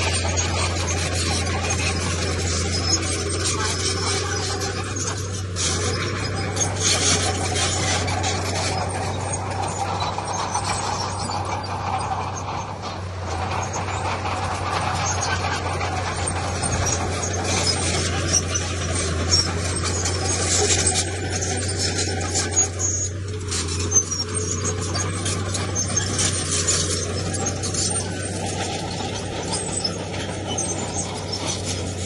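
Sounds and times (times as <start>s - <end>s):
diesel engine hum: 0.0s - 32.0s
stone and steel scraping: 0.0s - 32.0s.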